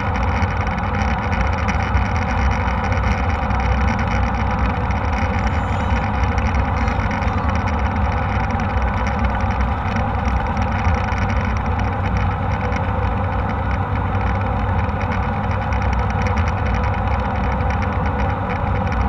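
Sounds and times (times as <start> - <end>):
jet airliner cabin drone: 0.0 - 19.0.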